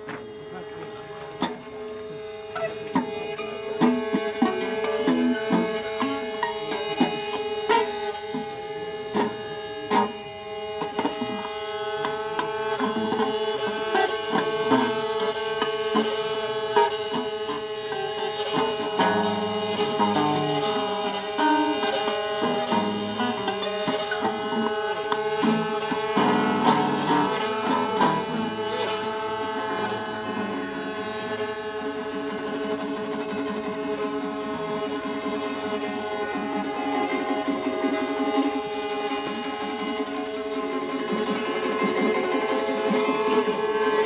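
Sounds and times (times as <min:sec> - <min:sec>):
droning string tone: 0:00.0 - 0:44.0
plucked and struck notes: 0:00.0 - 0:44.0.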